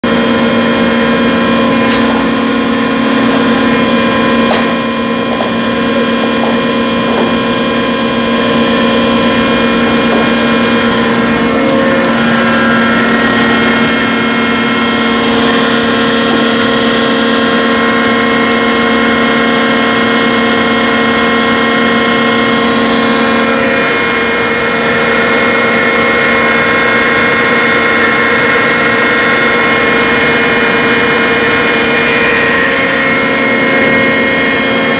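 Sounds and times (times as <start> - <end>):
drilling rig machine drone: 0.0 - 34.9.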